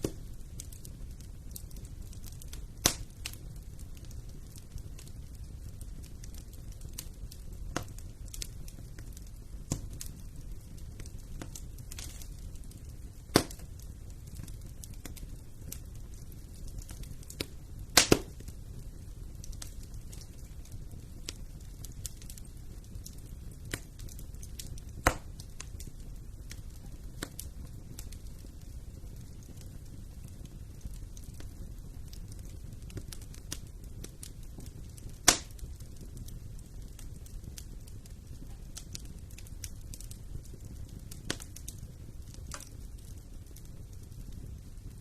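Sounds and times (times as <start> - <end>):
fire crackling: 0.0 - 45.0
loud sharp pops from fire: 0.0 - 45.0
low rumble of flames: 0.0 - 45.0.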